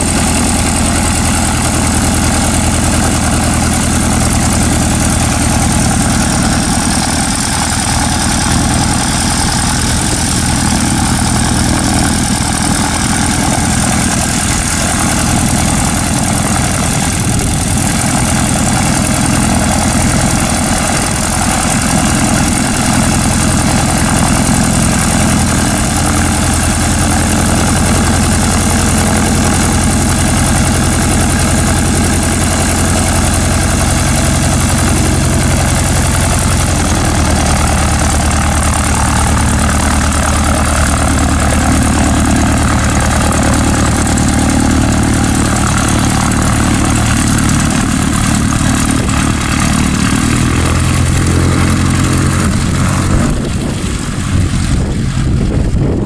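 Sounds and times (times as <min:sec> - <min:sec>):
propeller plane engine idling: 0:00.0 - 0:56.0.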